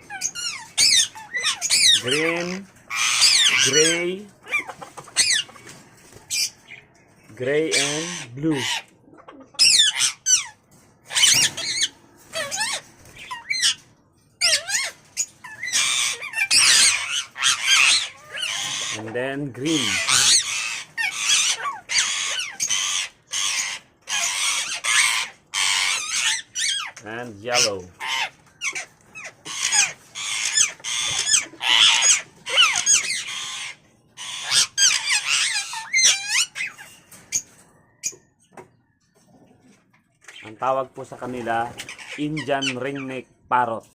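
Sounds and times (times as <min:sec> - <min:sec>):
parakeets squawking: 0:00.0 - 0:38.6, 0:40.2 - 0:43.9.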